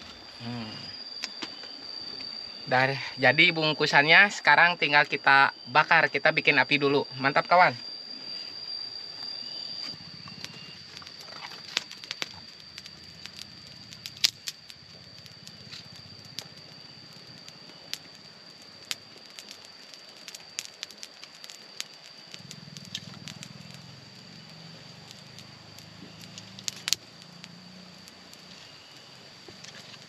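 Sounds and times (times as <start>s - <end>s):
insect drone: 0.0s - 30.0s
kindling fire crackling: 0.0s - 30.0s.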